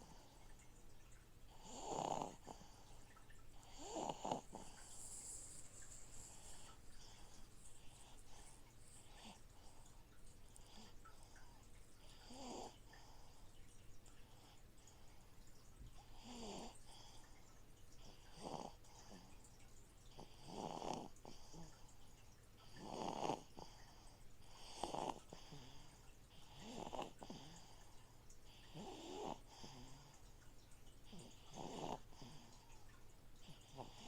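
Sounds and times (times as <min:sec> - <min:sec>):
aquarium filter humming: 0:00.0 - 0:34.0
soft snoring: 0:01.5 - 0:13.6, 0:15.8 - 0:30.3, 0:31.0 - 0:34.0.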